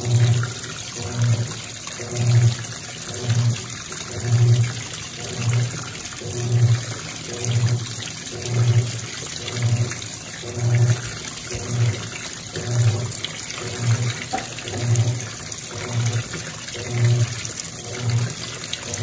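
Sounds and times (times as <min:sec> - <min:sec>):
washing machine agitator humming: 0:00.0 - 0:19.0
water jet pouring: 0:00.0 - 0:19.0.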